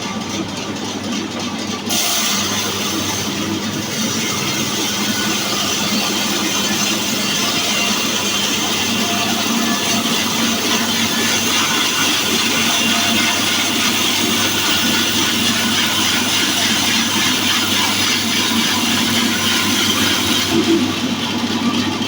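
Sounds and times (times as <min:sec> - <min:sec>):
machine hum: 0:01.8 - 0:22.0
sawing noise: 0:01.9 - 0:22.0.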